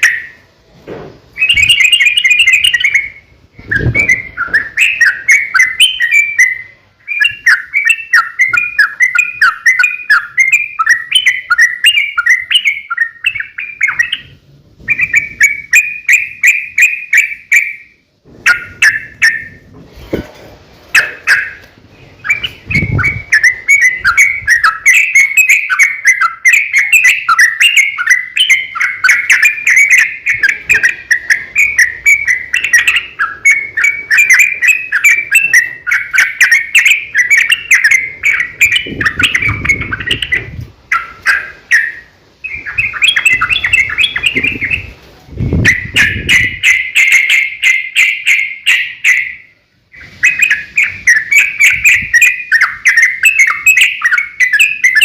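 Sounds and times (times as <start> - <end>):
bulbul singing chattering notes: 1.3 - 19.6, 21.0 - 55.0.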